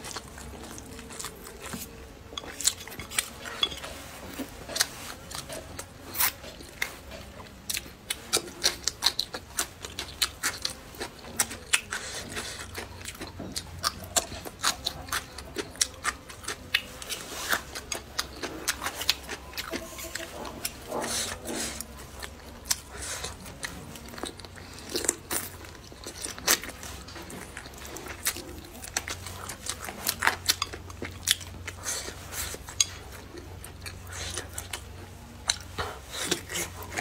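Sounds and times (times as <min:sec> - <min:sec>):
person crunching vegetables: 0:00.0 - 0:37.0.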